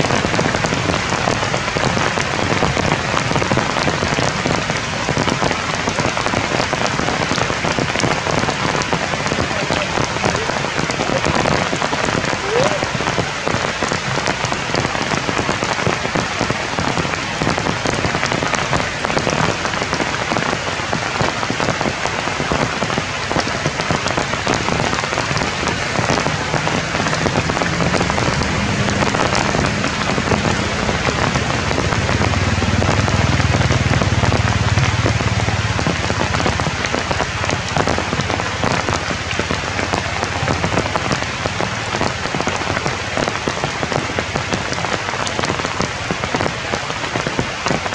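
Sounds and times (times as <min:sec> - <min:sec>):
rain falling through leaves: 0:00.0 - 0:47.9.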